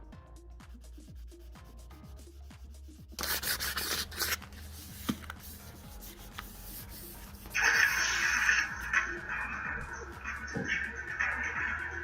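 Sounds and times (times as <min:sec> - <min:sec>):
background music with a beat: 0:00.0 - 0:12.0
sandpaper rubbing on metal wheel: 0:00.7 - 0:12.0.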